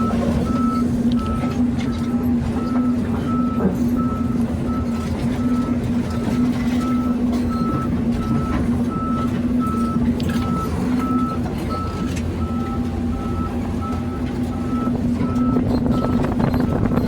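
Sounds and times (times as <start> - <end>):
back-up alarm beeping: 0.0 - 17.0
diesel machinery running: 0.0 - 17.0.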